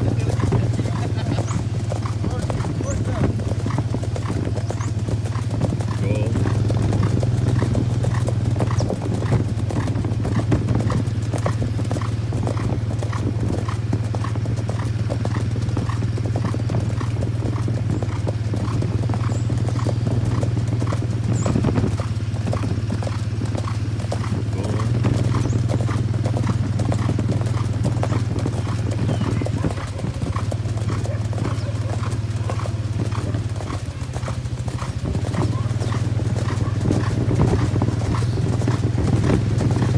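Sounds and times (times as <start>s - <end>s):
horses cantering on pavement: 0.0s - 39.9s.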